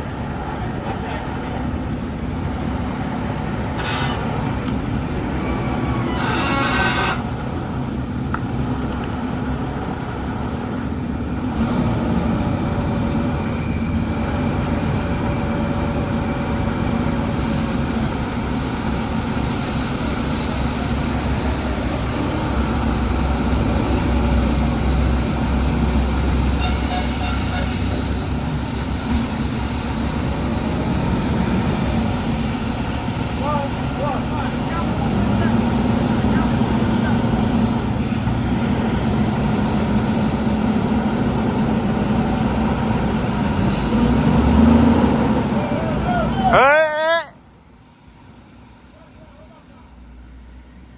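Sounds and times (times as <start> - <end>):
heavy truck running: 0.0 - 50.9.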